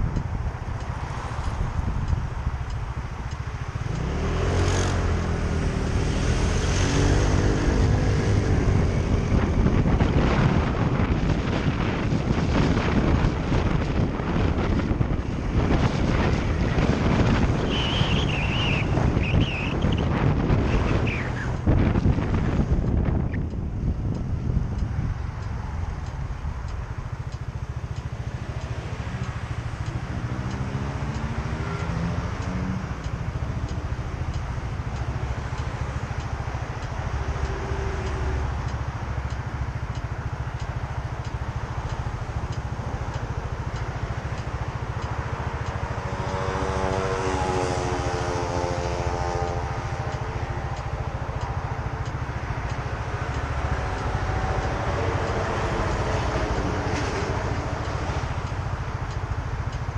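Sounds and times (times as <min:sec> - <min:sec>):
motorcycle engine accelerating: 0:01.1 - 0:39.2, 0:40.2 - 0:59.9.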